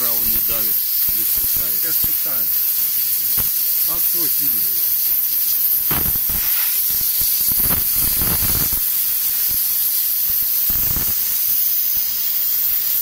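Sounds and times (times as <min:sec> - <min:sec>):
compressed air hissing from valve: 0:00.0 - 0:13.0.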